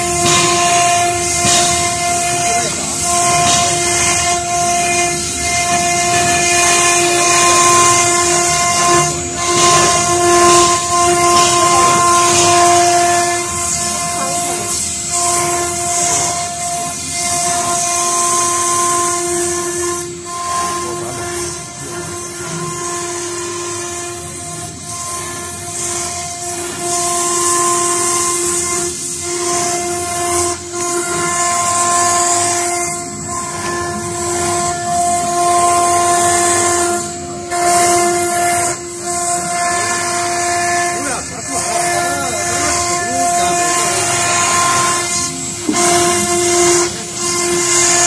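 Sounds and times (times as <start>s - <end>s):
router spindle high whine: 0.0s - 48.0s.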